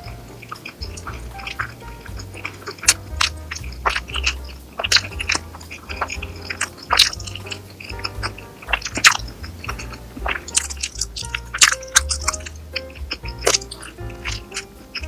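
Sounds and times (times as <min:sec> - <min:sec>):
background music with bass line: 0:00.0 - 0:15.0
wet chewing sounds: 0:00.0 - 0:15.0.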